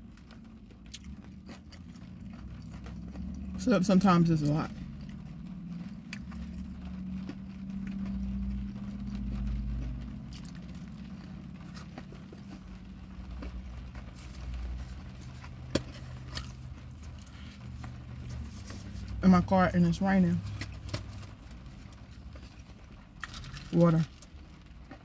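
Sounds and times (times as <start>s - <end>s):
low hum inside car: 0.0s - 25.0s
raindrops ticking on car: 0.0s - 25.0s.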